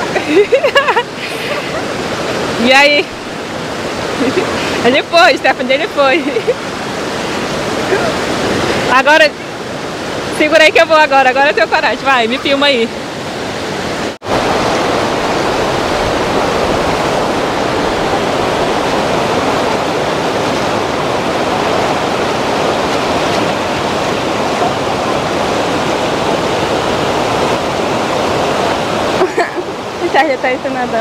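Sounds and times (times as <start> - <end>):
river rapids rushing over rock: 0.0 - 31.0.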